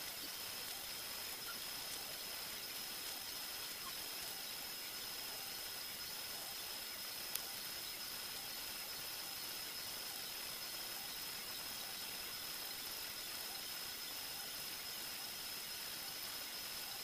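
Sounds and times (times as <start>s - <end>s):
faint high-pitched whine: 0.0s - 17.0s
steady hiss: 0.0s - 17.0s.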